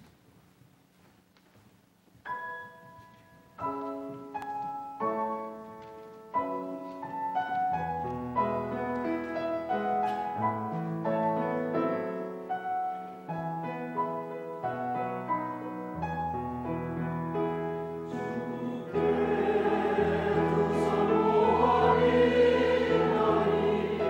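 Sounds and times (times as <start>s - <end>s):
grand piano playing: 2.3s - 24.0s.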